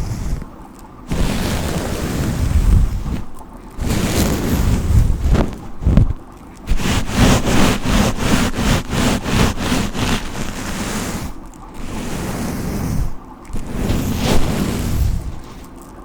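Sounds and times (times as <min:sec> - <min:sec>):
hair being brushed: 0:00.0 - 0:00.5, 0:01.1 - 0:15.9.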